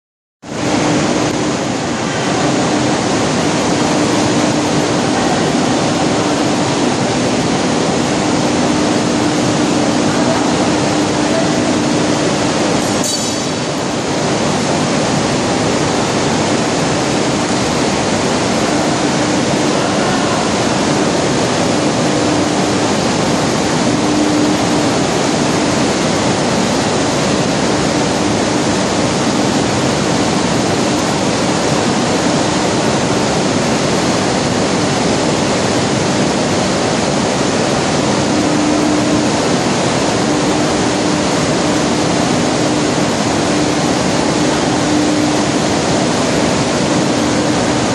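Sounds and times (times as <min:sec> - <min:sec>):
low machine hum: 0:00.4 - 0:47.9
machine noise rushing: 0:00.6 - 0:47.9.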